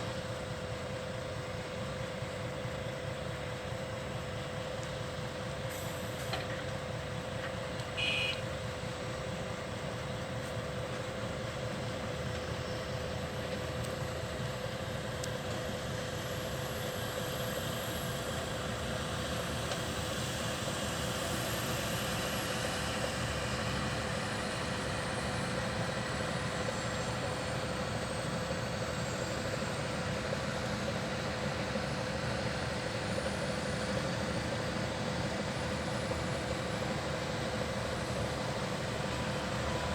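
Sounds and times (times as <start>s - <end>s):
dump truck diesel engine running: 0.0s - 39.9s.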